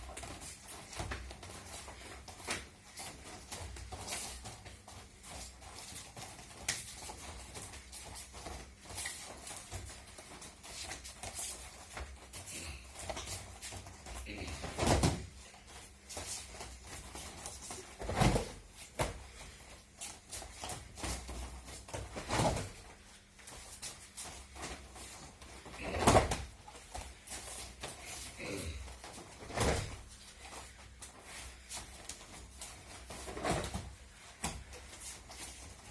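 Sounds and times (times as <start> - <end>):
bodies and feet thudding on mats: 0.0 - 35.9.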